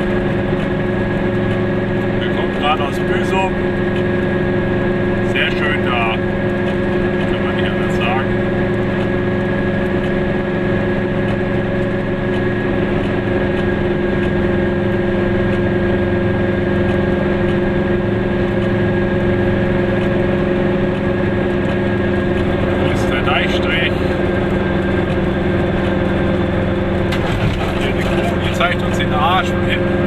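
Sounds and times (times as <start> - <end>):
road and tyre noise: 0.0 - 30.0
two-stroke car engine droning: 0.0 - 30.0.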